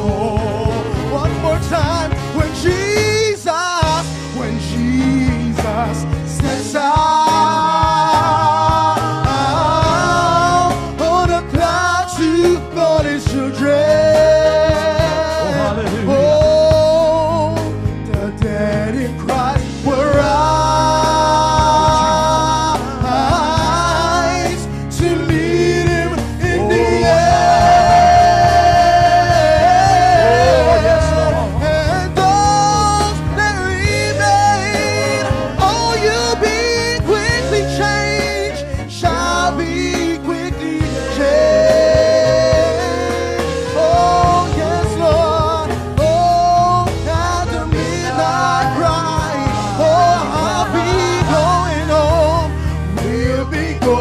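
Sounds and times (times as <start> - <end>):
gospel song with band: 0.0 - 54.0
steady bass: 0.0 - 54.0
person singing with vibrato: 2.7 - 17.6, 19.0 - 54.0.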